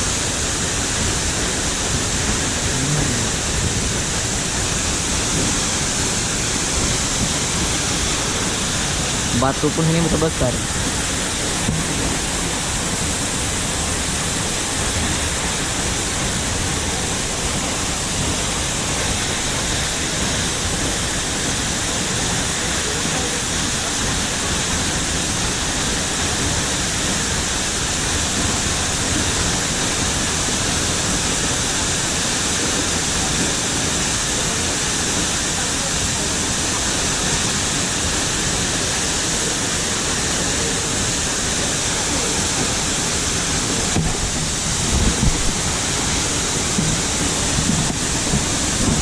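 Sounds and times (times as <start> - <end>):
waterfall rushing: 0.0 - 49.0.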